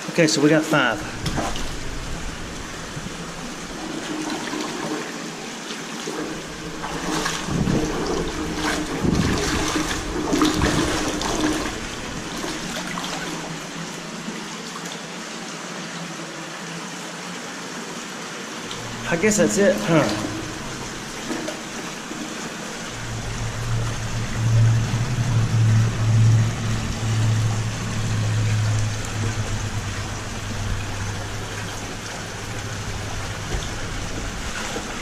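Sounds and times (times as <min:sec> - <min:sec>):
water sloshing and splashing: 0:00.0 - 0:16.2, 0:18.4 - 0:35.0
creek water trickling: 0:00.7 - 0:17.1, 0:18.0 - 0:35.0.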